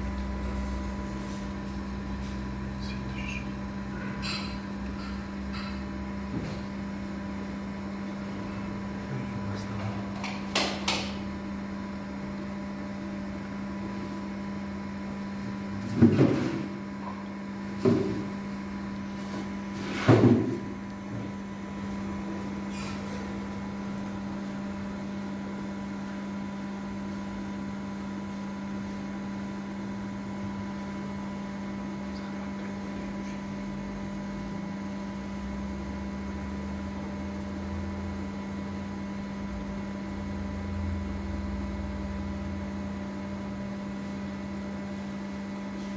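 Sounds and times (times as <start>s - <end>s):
low electrical hum: 0.0s - 45.9s.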